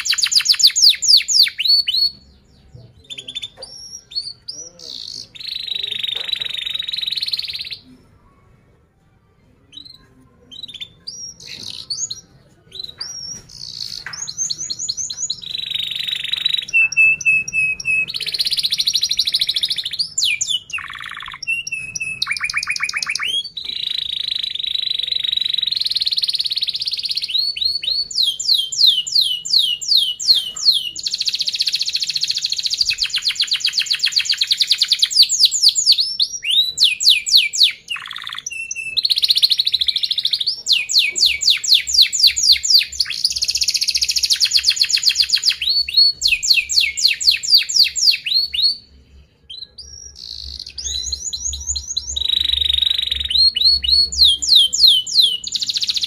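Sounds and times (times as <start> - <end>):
canary singing: 0.0 - 8.8, 9.4 - 56.0.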